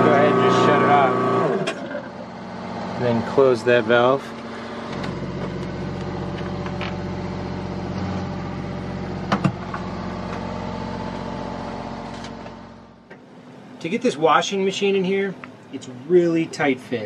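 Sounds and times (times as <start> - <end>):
pressure pump humming: 0.0 - 15.7.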